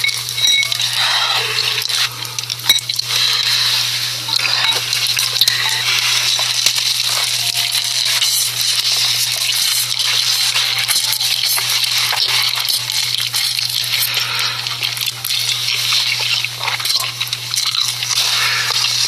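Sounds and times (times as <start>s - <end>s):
crisp eating clicks and crackles: 0.0s - 19.0s.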